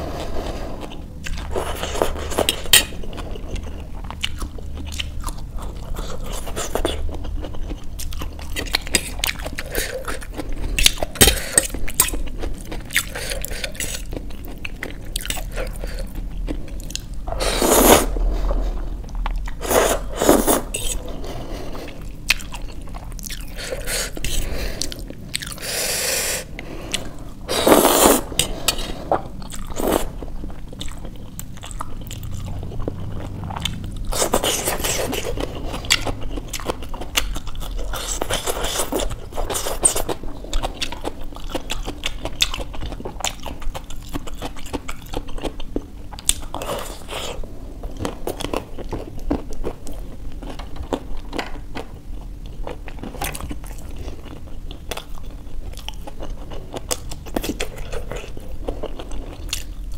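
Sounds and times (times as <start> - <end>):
person chewing noodles: 0.0 - 59.9.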